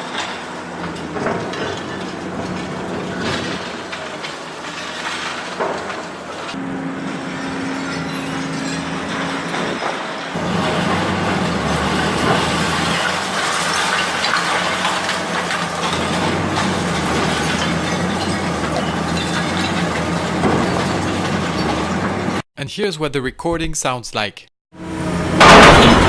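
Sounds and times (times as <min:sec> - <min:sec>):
debris cracking and crushing: 0:00.0 - 0:06.6, 0:07.4 - 0:22.4, 0:25.4 - 0:26.0
demolition machine engine droning: 0:00.0 - 0:22.4, 0:24.8 - 0:26.0.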